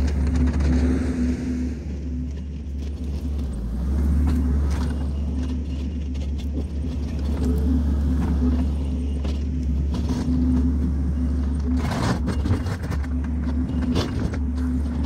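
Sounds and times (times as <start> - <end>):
diesel engine working under load: 0.0 - 15.0.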